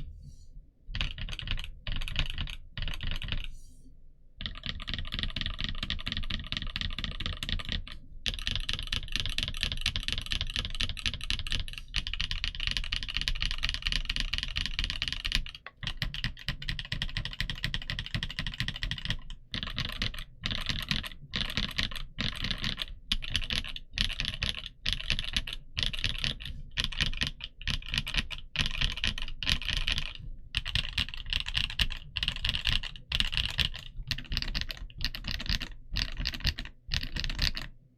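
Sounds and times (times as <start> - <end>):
mechanical keyboard typing: 0.9 - 3.5, 4.4 - 37.8.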